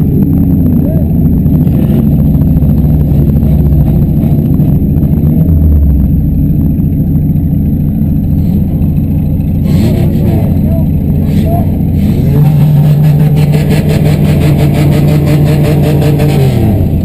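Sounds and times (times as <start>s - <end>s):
car engines revving loudly: 0.0s - 17.0s.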